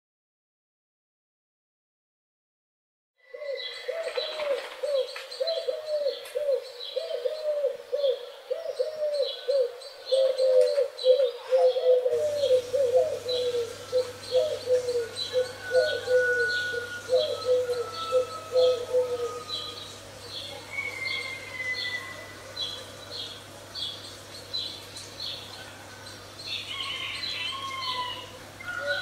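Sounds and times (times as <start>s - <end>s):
faint steady hum: 3.4s - 29.0s.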